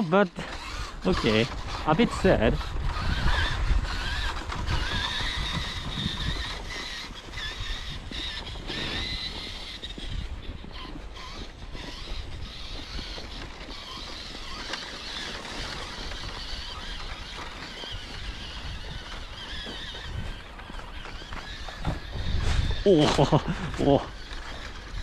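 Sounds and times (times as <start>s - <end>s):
toy truck motor whining: 0.0s - 25.0s.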